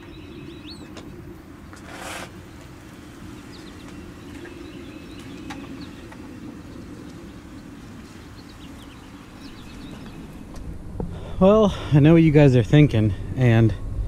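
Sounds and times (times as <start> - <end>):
birds chirping: 0.0 - 13.7
low rumble: 2.4 - 14.0.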